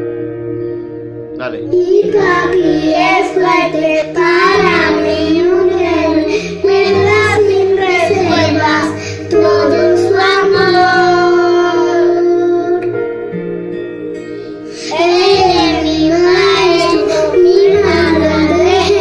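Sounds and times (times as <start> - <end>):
instrumental music: 0.0 - 19.0
children singing: 1.4 - 12.9, 14.7 - 19.0.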